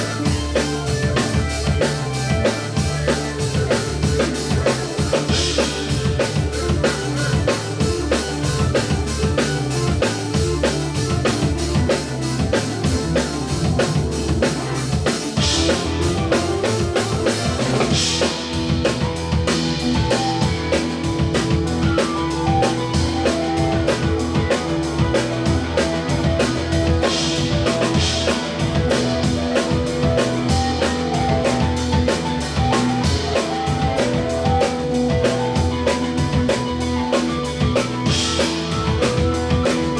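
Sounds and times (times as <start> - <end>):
bass line: 0.0 - 39.9
drum kit beat: 0.0 - 39.9.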